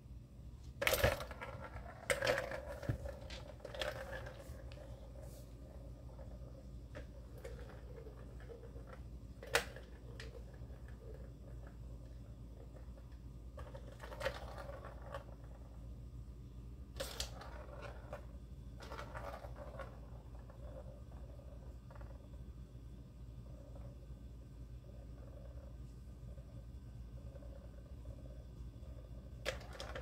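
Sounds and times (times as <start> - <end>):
plastic balls rolling and rattling: 0.6 - 15.9, 16.9 - 22.5, 23.4 - 30.0.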